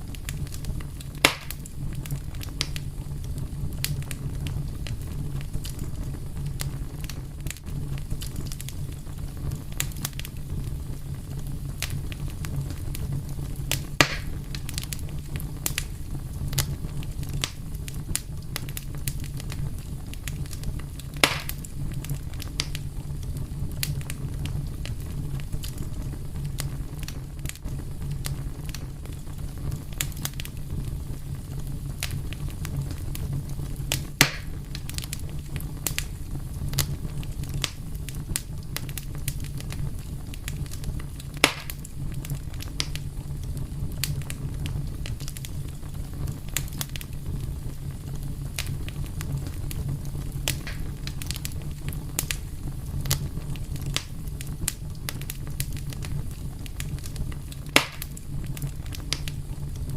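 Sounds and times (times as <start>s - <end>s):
loud fire pops: 0.0s - 59.9s
wood fire crackling: 0.0s - 59.9s.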